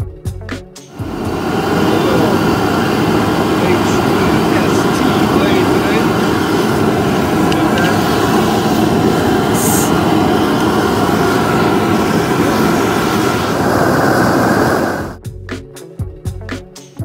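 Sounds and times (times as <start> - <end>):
gas jet burner roaring: 0.9 - 15.2.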